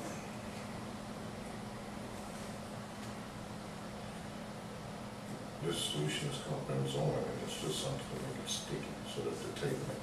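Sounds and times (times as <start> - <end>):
faint low hum: 0.0 - 10.0
steady hiss: 0.0 - 10.0.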